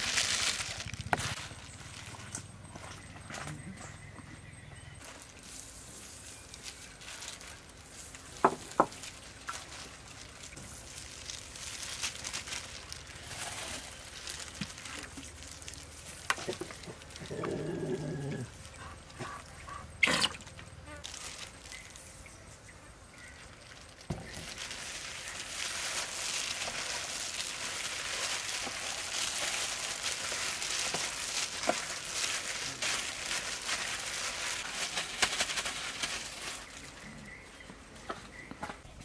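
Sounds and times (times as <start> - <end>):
plastic glove rustle: 0.0 - 2.3, 5.0 - 22.2, 23.2 - 37.4.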